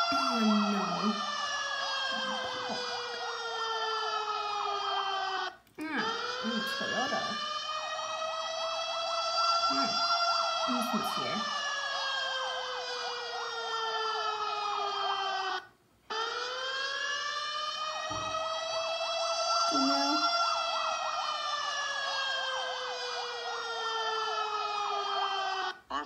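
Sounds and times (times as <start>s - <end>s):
wailing siren sound effect: 0.0s - 26.0s.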